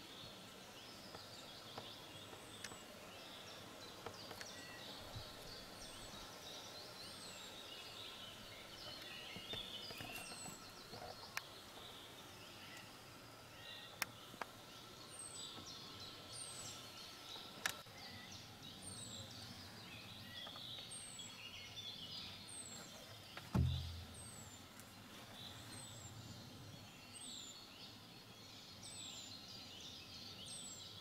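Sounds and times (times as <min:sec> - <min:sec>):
small birds singing: 0:00.0 - 0:31.0.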